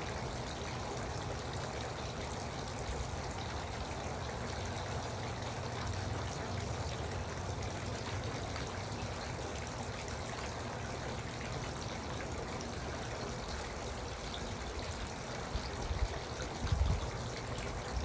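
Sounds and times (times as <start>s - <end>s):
fountain water trickling and splashing: 0.0s - 18.0s.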